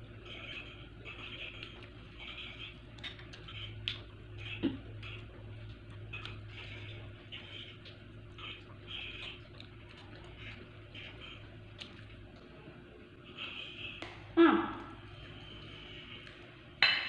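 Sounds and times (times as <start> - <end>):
person chewing food: 0.0 - 14.4
low steady hum: 0.0 - 17.0.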